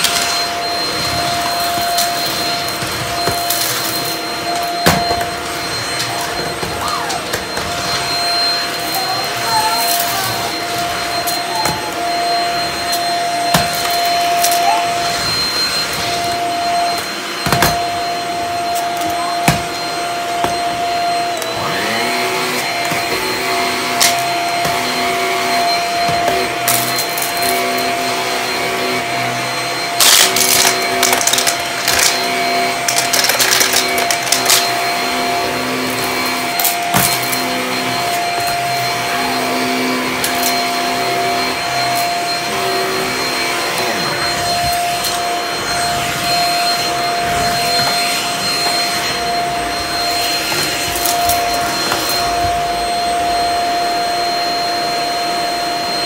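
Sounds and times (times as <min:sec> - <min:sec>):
vacuum cleaner motor whine: 0:00.0 - 0:56.0.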